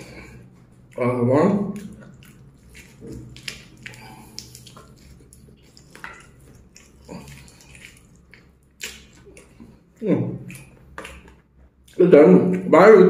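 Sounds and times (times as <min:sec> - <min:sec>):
man chewing fried chicken: 0:00.0 - 0:12.8.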